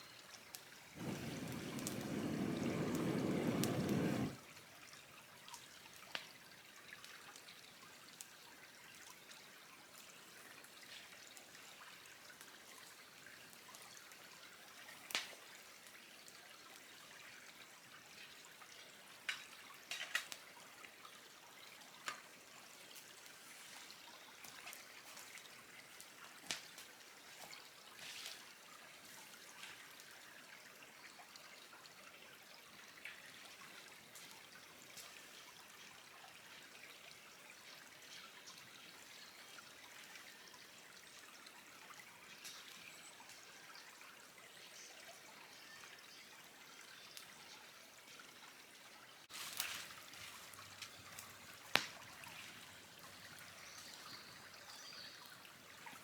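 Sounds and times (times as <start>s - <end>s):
trickle of running water: 0.0s - 56.0s.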